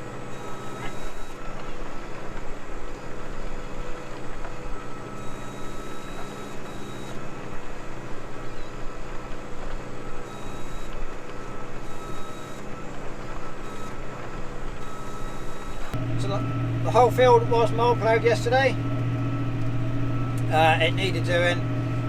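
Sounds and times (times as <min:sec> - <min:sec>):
faint high whine: 0:00.0 - 0:22.0
tractor engine under load: 0:00.0 - 0:22.0.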